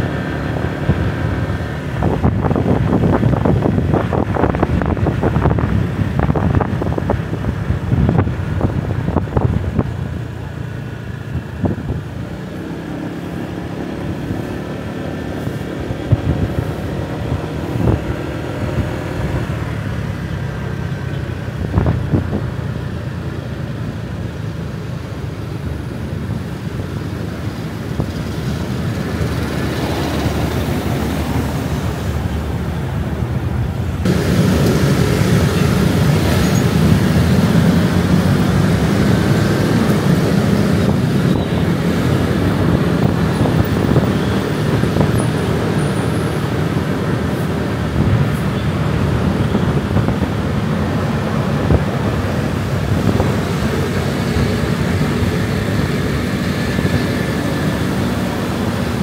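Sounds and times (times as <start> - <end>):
motorbike engine and road noise: 0.0 - 59.0
road traffic rumble: 0.0 - 59.0.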